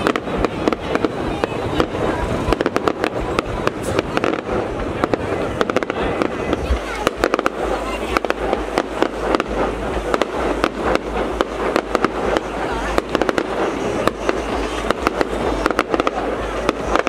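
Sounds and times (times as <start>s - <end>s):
fireworks bangs: 0.0s - 17.0s
fireworks crackle: 0.0s - 17.0s.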